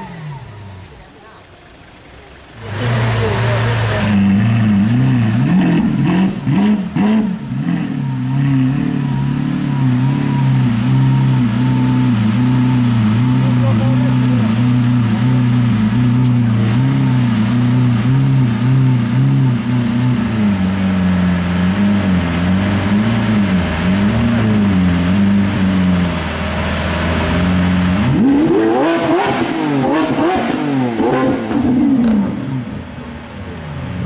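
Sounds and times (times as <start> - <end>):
car engine running: 0.0 - 34.0
engine revving blips: 2.6 - 20.9, 21.6 - 32.9.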